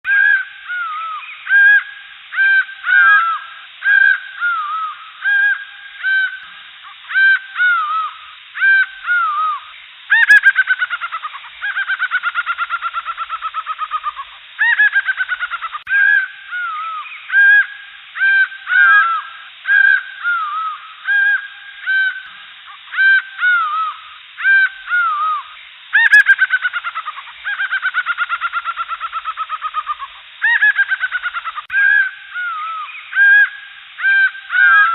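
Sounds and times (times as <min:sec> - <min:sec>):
birds repeated arching calls: 0:00.1 - 0:34.9.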